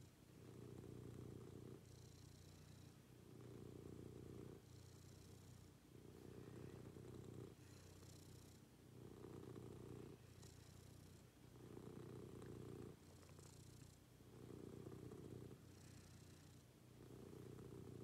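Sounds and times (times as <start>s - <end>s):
cat purring softly: 0.0s - 18.0s.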